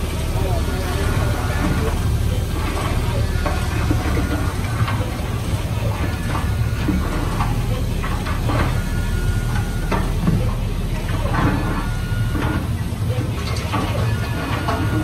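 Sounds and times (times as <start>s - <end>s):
diesel machinery engine: 0.0s - 15.0s.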